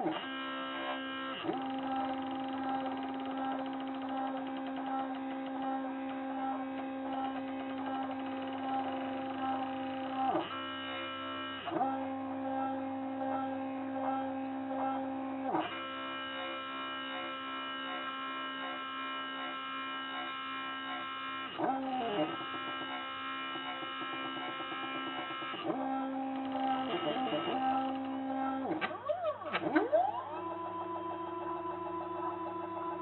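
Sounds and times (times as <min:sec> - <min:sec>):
router motor whine: 0:00.0 - 0:33.0.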